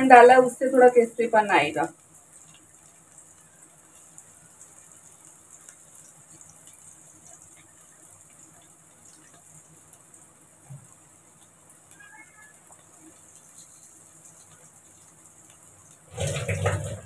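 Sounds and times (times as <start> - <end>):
faint sizzle of frying in oil: 0.0 - 17.0.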